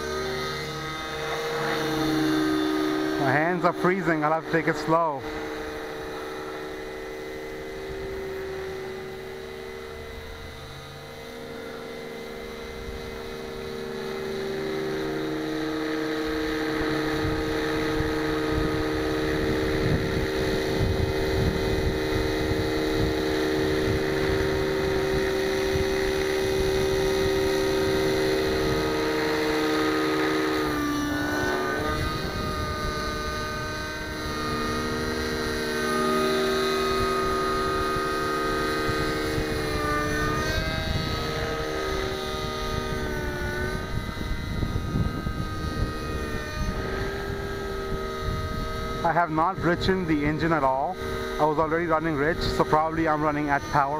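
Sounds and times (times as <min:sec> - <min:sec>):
model helicopter engine and rotor whine: 0:00.0 - 0:53.9.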